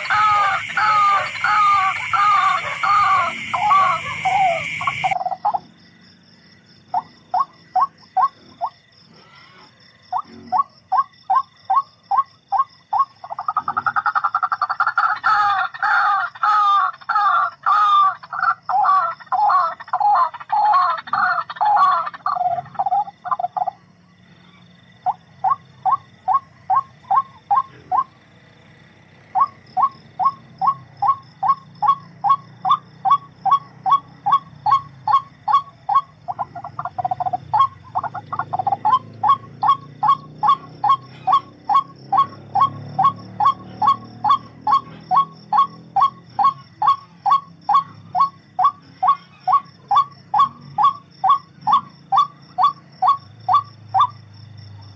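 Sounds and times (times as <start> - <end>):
animal calling repeated notes: 0.0 - 5.6, 6.9 - 23.8, 25.0 - 28.2, 29.3 - 54.3.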